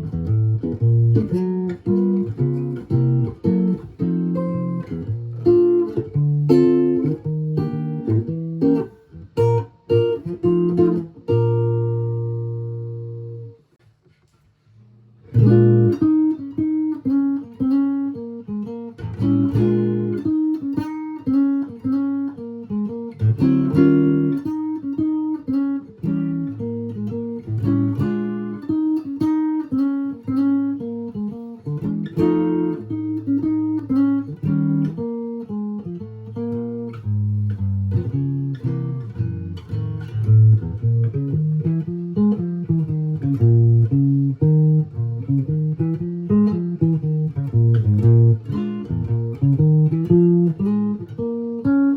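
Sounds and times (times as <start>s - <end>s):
electric guitar playing: 0.0s - 13.7s, 15.1s - 51.9s.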